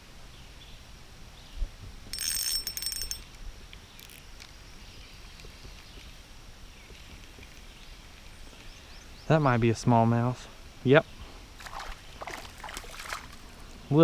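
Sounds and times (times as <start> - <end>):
creek background noise: 2.1 - 14.0.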